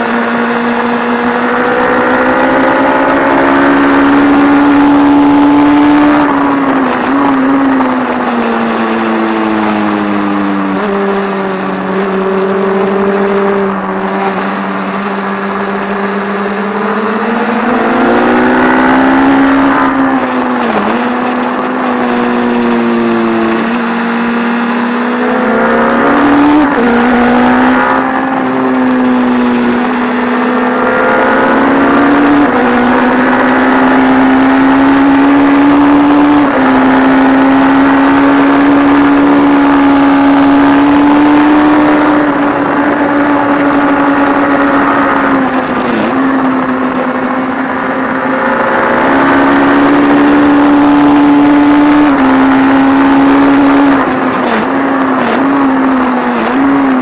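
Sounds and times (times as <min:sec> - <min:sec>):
motorcycle engine running hard: 0:00.0 - 0:57.0
wind noise: 0:00.0 - 0:57.0.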